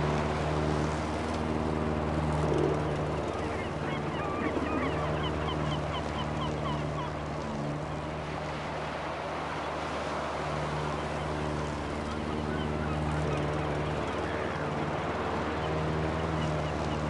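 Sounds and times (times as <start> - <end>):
lawn mower cutting grass: 0.0 - 17.0.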